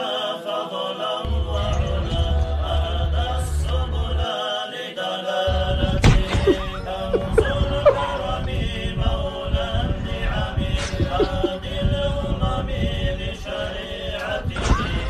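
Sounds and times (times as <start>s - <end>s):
voices chanting: 0.0s - 15.0s
deep bass drone: 1.2s - 4.3s, 5.5s - 15.0s.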